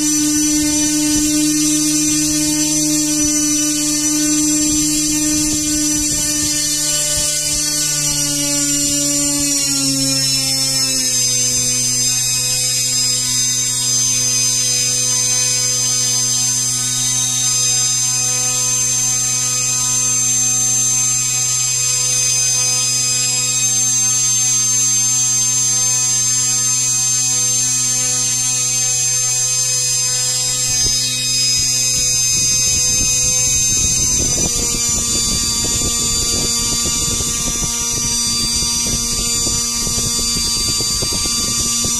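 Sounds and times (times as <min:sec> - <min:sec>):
electric motor whining: 0:00.0 - 0:41.9.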